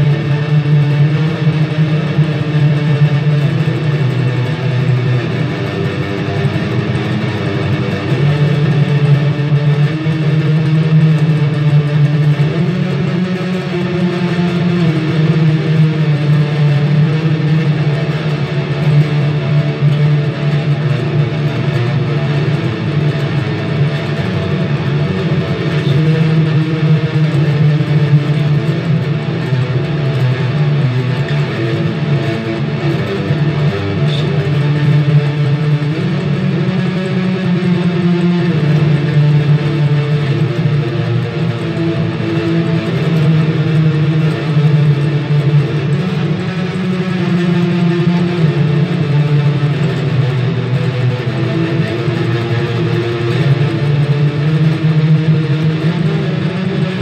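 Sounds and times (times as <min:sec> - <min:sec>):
fuzz electric guitar chords: 0:00.0 - 0:57.0.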